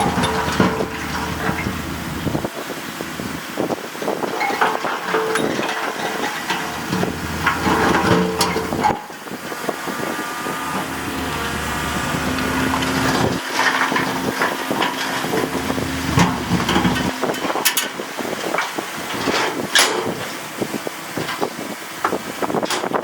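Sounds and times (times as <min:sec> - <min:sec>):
knocks and clatter: 0:00.0 - 0:20.4
heavy machinery diesel engines: 0:00.0 - 0:23.0.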